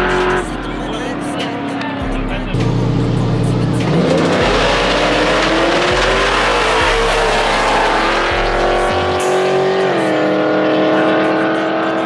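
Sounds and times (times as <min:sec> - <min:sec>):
music with deep bass line: 0:00.0 - 0:12.0
race engine accelerating: 0:00.0 - 0:12.0.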